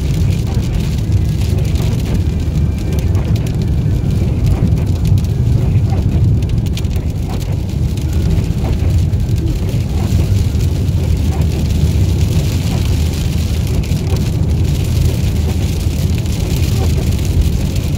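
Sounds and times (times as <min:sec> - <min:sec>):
car engine and tyres rumbling: 0:00.0 - 0:17.9.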